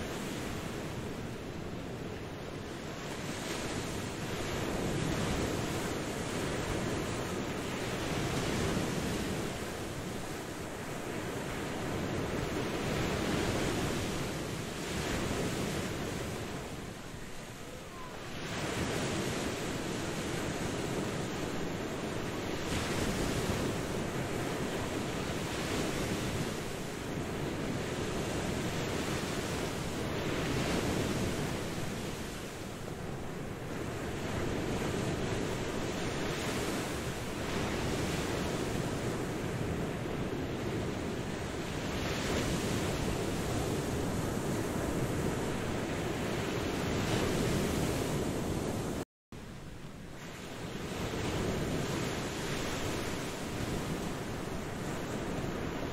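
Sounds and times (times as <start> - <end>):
waves washing onto beach: 0.0 - 55.9.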